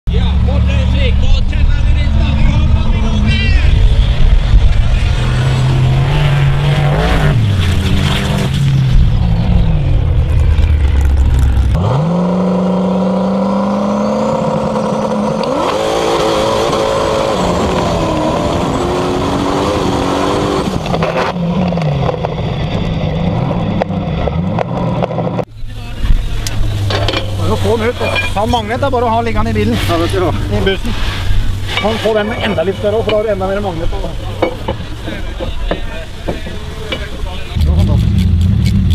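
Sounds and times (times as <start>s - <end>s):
racing car engines revving: 0.1s - 38.9s.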